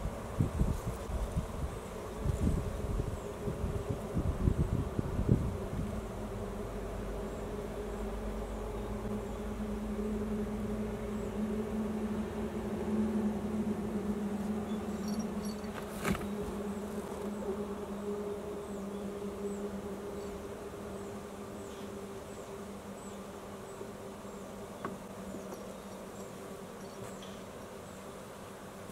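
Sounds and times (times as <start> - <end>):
low buzzing hum: 0.0 - 28.9.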